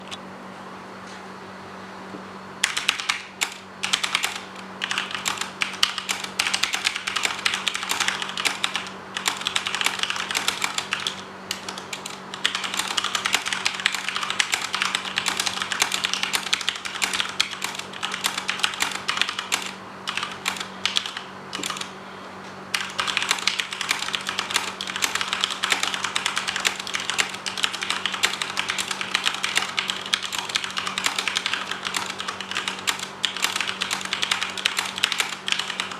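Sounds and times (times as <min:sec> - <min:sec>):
mechanical keyboard typing: 0:02.6 - 0:21.9, 0:22.7 - 0:35.9.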